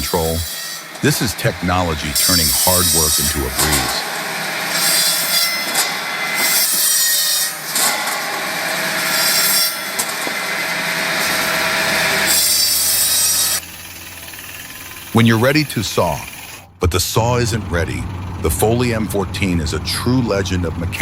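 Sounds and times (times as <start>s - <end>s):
machine saw cutting logs: 0.0s - 21.0s.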